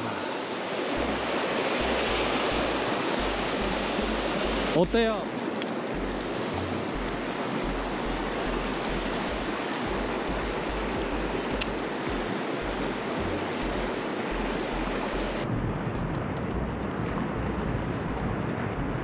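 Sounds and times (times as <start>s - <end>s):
river water rushing and splashing: 0.0s - 19.0s.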